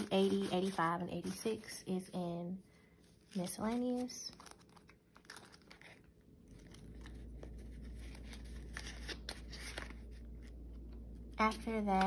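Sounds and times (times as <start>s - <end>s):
banknotes and plastic rustling: 0.0s - 2.0s, 3.1s - 12.0s.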